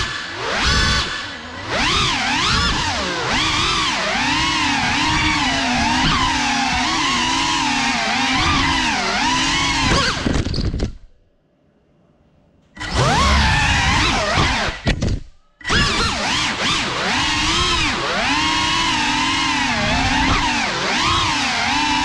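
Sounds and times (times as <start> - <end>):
quadcopter motors whining: 0.0 - 10.6, 12.8 - 14.9, 15.6 - 22.0.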